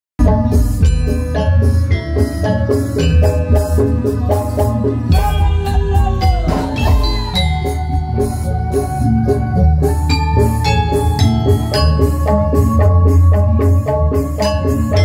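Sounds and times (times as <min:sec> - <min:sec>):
drums: 0:00.2 - 0:15.0
held bending melody note: 0:00.2 - 0:15.0
metallophones struck with mallets: 0:00.2 - 0:15.0.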